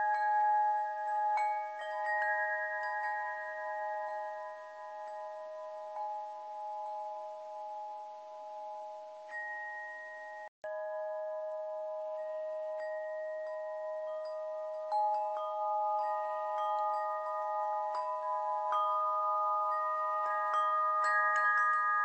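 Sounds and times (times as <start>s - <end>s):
chimes ringing: 0.0s - 22.0s.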